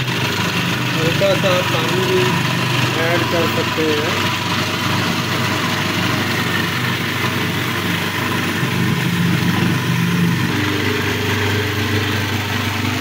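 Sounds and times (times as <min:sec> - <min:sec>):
small electric motor humming: 0:00.0 - 0:13.0.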